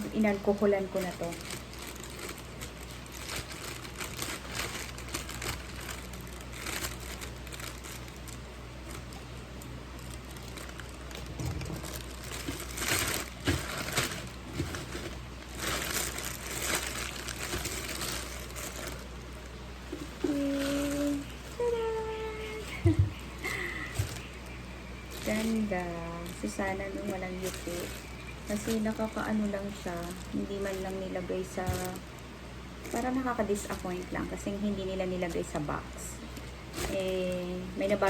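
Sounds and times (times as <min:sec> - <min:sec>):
plastic packaging crinkling: 0:00.0 - 0:38.0.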